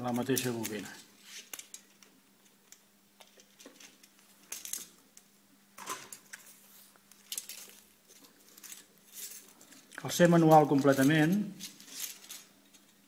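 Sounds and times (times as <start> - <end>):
film clicking and rustling: 0.1 - 13.0.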